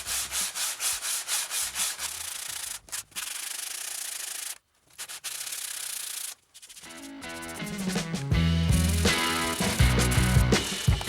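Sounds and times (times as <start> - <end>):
sandpaper scraping knife blade: 0.0 - 8.1, 8.7 - 11.0.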